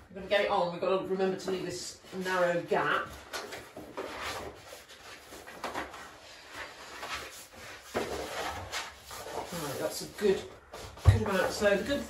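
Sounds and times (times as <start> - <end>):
lining paper rustling and crinkling: 2.1 - 12.0
paper brushing and scraping on wall: 2.1 - 12.0.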